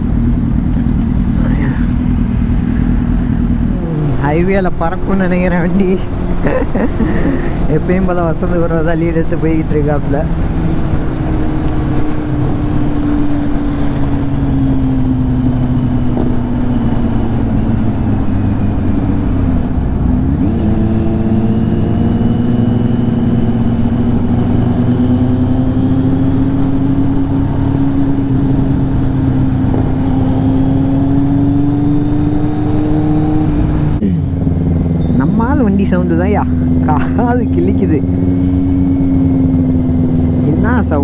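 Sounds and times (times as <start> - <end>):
motorcycle engine running: 0.0 - 41.0
road and wind noise: 0.0 - 41.0.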